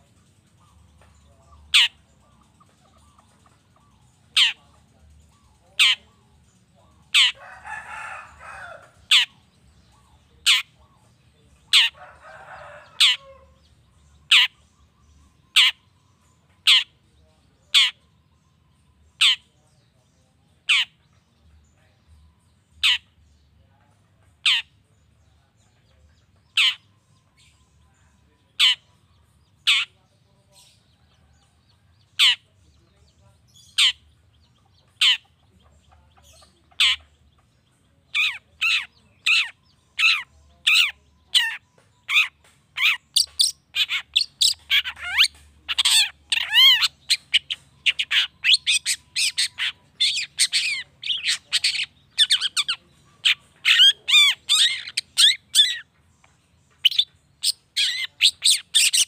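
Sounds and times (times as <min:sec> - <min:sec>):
harsh rasping bird chatter: 0:00.0 - 0:59.0.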